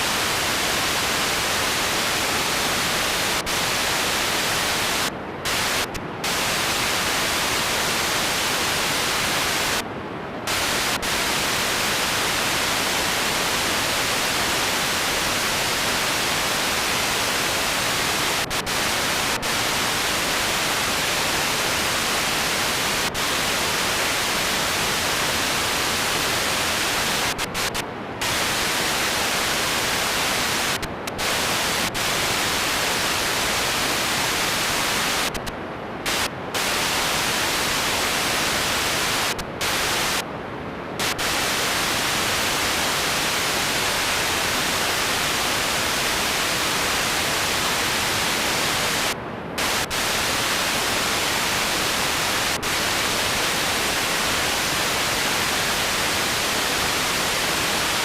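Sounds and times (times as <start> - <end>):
static hiss: 0.0 - 40.3, 40.9 - 58.0.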